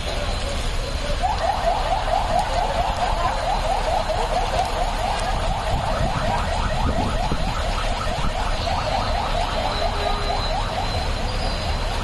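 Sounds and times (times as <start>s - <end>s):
low rumble of traffic: 0.0s - 12.0s
police siren yelping: 0.0s - 12.0s.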